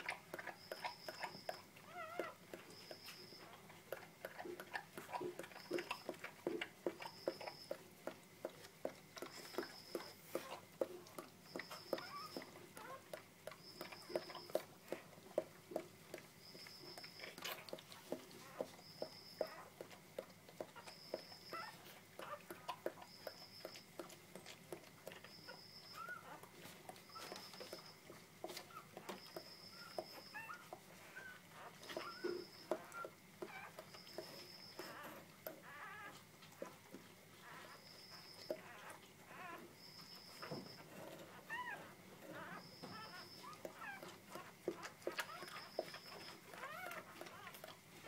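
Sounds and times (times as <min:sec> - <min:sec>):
puppies squeaking: 0:00.0 - 0:03.6, 0:04.3 - 0:07.8, 0:09.2 - 0:10.6, 0:11.5 - 0:13.1, 0:13.7 - 0:15.0, 0:16.5 - 0:19.7, 0:20.7 - 0:24.5, 0:25.2 - 0:47.7
puppies smacking mouths: 0:00.0 - 0:48.0.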